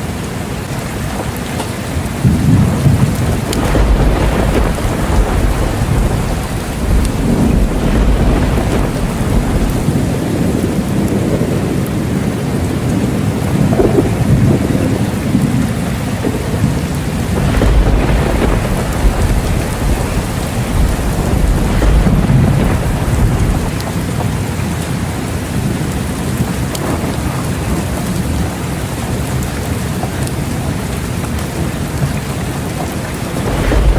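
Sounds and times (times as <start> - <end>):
rolling thunder rumbles: 0.0 - 33.9
steady rain: 0.0 - 33.9.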